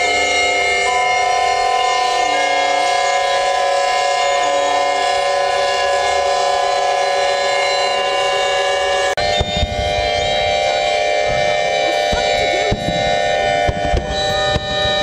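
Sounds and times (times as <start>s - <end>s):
pipe organ sustained chord: 0.0s - 15.0s
steam whistles: 0.0s - 15.0s.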